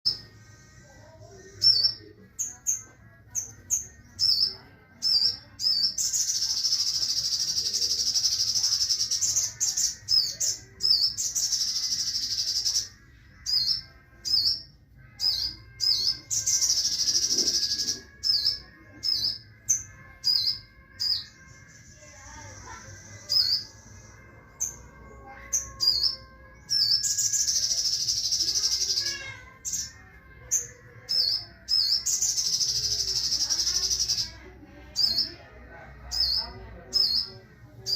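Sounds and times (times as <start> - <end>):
birds buzzing trills: 0.1 - 35.4.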